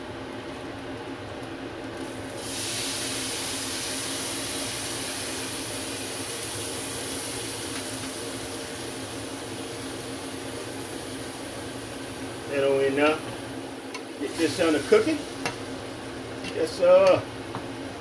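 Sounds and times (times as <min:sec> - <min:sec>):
vegetables sizzling in frying pan: 0:02.0 - 0:18.0.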